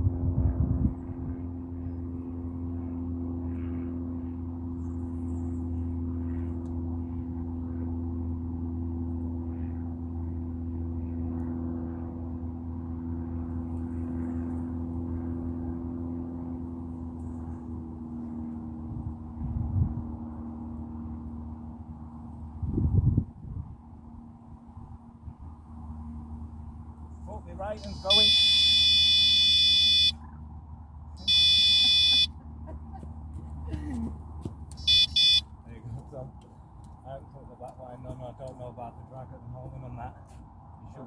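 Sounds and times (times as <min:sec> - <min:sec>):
engine drone: 0:00.0 - 0:41.0.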